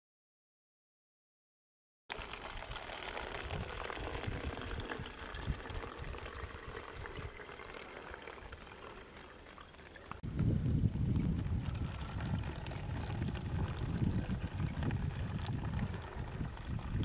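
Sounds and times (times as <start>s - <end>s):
water pouring into plastic bottle: 2.1s - 17.0s.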